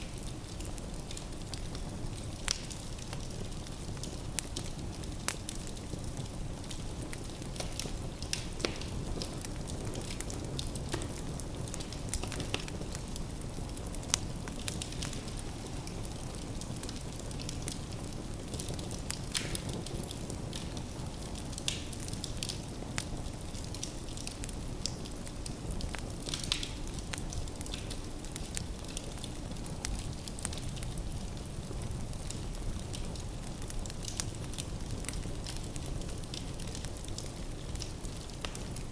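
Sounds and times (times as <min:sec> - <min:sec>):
fire rumbling: 0:00.0 - 0:38.9
wood crackling and popping: 0:00.0 - 0:38.9.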